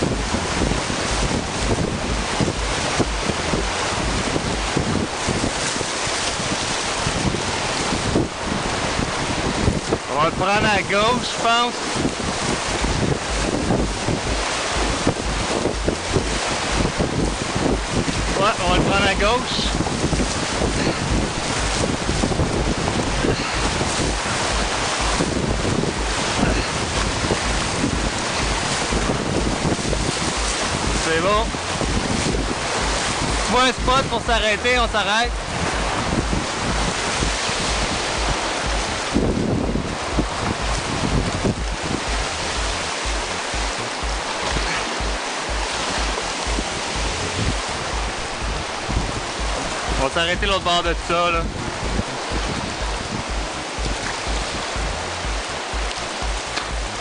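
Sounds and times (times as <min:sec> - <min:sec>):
whitewater rapids rushing: 0:00.0 - 0:57.0
wind buffeting microphone: 0:00.0 - 0:57.0.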